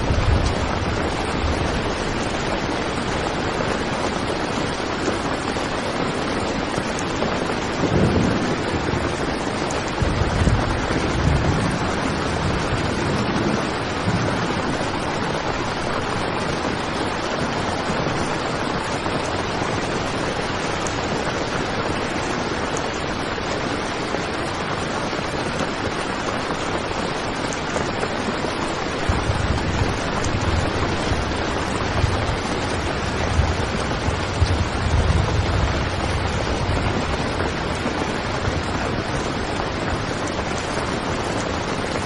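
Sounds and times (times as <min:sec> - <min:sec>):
heavy rain on tent fabric: 0:00.0 - 0:42.0.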